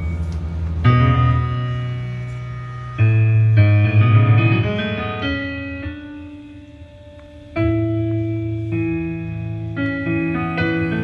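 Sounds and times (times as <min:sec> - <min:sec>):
instrumental music over loudspeaker: 0:00.0 - 0:11.0.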